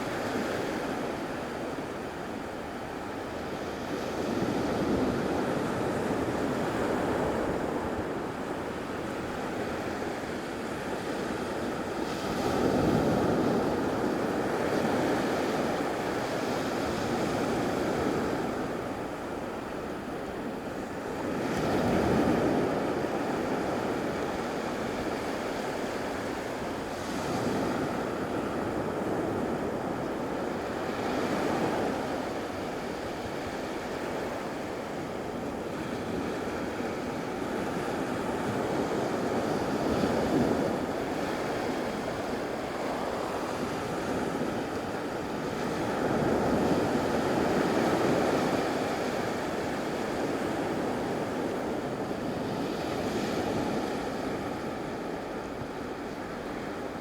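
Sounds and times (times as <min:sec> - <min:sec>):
surf washing onto beach: 0:00.0 - 0:57.0.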